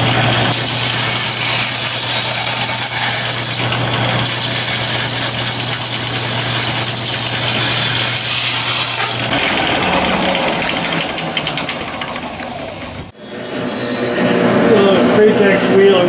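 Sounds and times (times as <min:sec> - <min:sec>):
band saw cutting metal sheet: 0:00.0 - 0:16.0.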